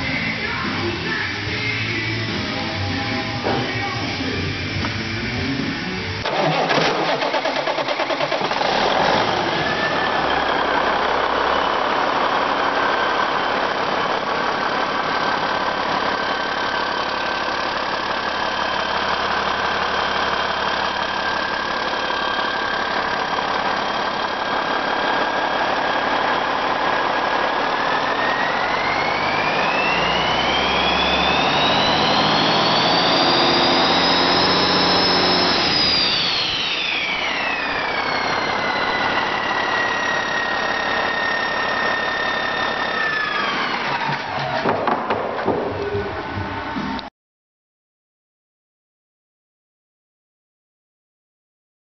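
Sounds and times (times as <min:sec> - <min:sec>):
turbocharger whine: 0:00.0 - 0:44.7
diesel engine starting and idling: 0:00.0 - 0:45.1.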